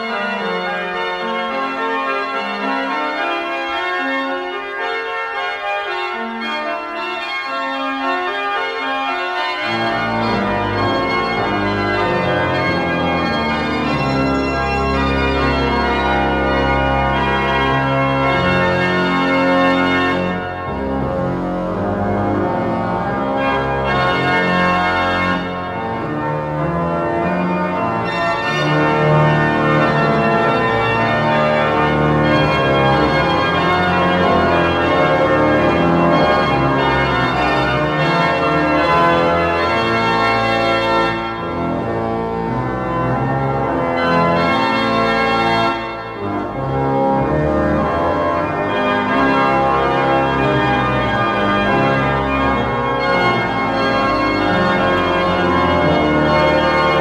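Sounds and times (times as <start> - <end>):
pipe organ playing a hymn: 0.0 - 57.0.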